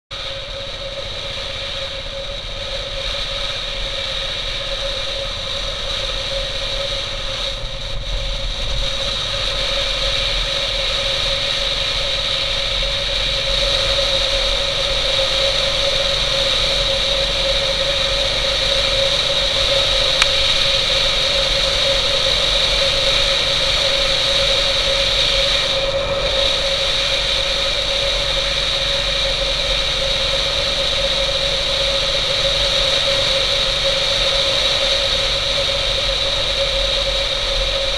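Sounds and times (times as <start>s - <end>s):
motorcycle engine running: 0.1s - 37.9s
constant whistling tone: 0.2s - 37.9s.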